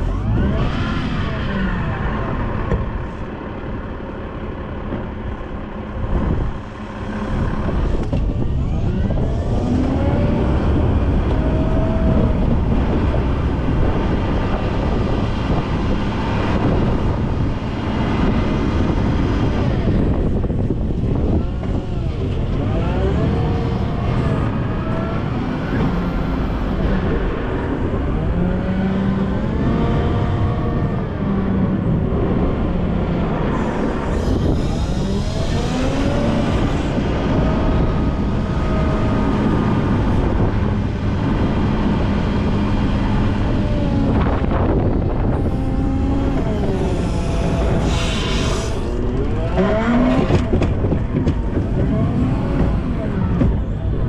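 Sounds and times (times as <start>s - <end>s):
wheel loader diesel engine revving: 0.0s - 54.0s.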